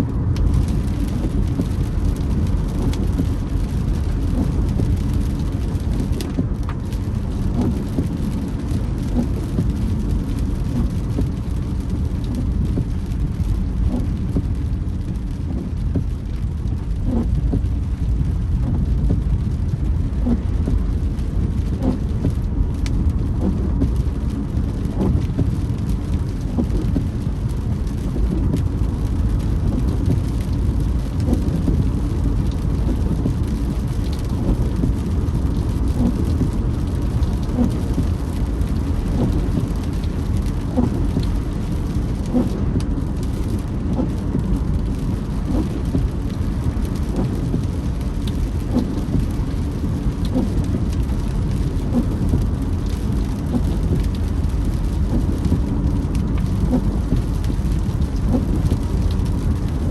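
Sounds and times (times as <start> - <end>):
rain drops ticking on car: 0.0 - 59.9
tyres rumbling on road: 0.0 - 59.9.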